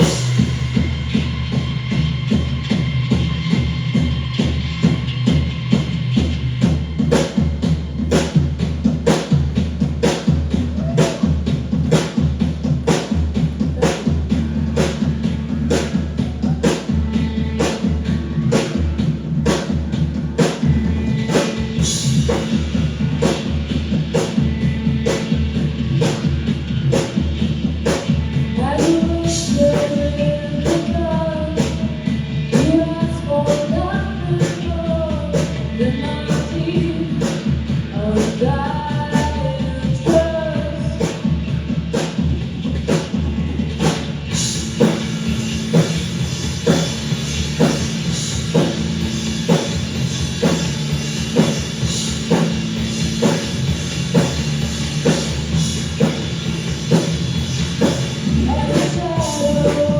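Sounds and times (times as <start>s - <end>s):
drums steady beat: 0.0s - 59.9s
rock band playing: 0.0s - 59.9s.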